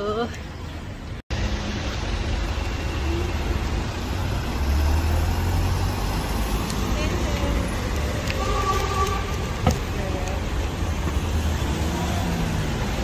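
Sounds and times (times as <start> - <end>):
passing road traffic: 0.0 - 13.0.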